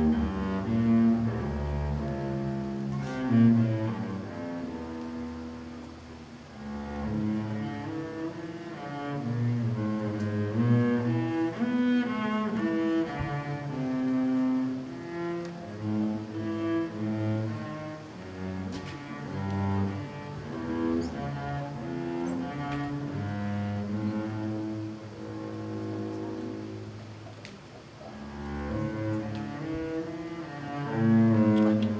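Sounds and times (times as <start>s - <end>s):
bowed double bass melody: 0.0s - 31.9s.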